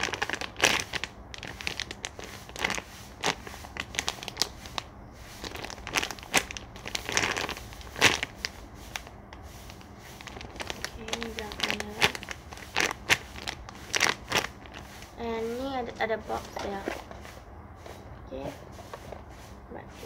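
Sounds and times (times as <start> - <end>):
plastic bag crinkling: 0.0 - 17.2.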